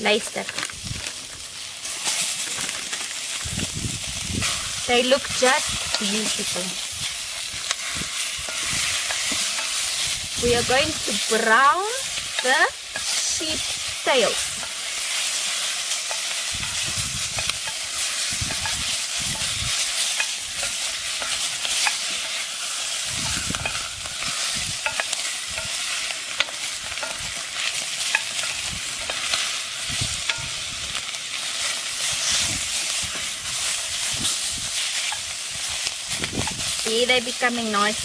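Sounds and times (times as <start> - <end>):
meat and onions sizzling in oil: 0.0 - 38.0.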